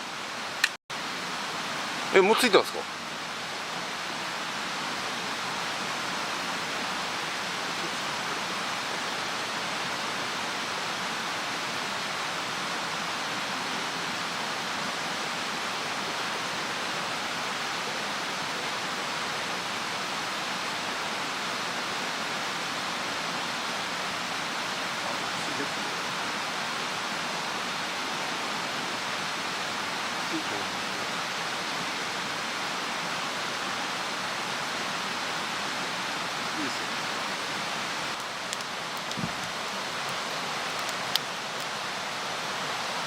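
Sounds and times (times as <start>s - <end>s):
stream water rushing: 0.0s - 43.0s.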